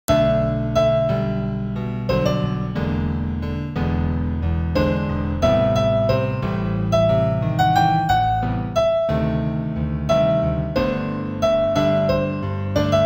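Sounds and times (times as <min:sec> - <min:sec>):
slow solo piano piece: 0:00.1 - 0:13.0.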